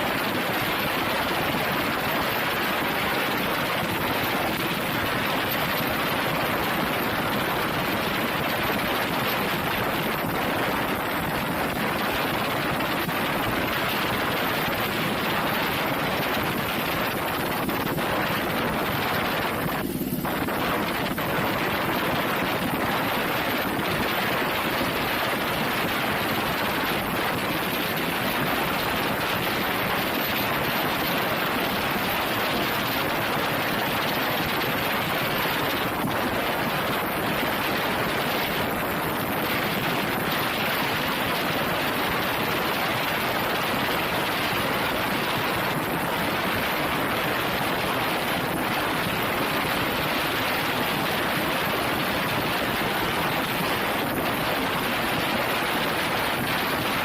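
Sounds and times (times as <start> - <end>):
helicopter hovering: 0.0 - 57.0
wind on microphone: 0.0 - 57.0.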